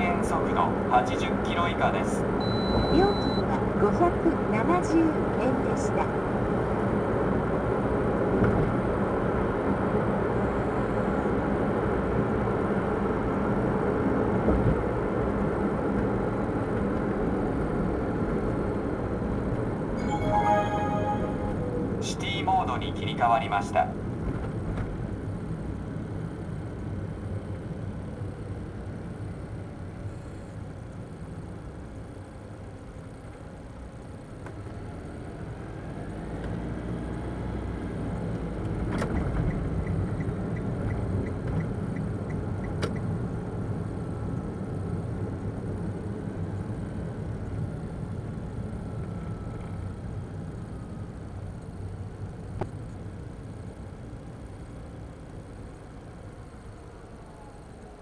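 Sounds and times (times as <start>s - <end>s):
road and engine noise in car: 0.0s - 58.0s.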